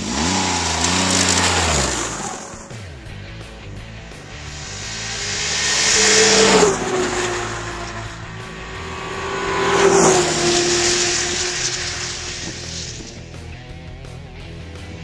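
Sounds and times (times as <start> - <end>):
snowmobiles passing at speed: 0.0 - 3.1, 4.0 - 13.3.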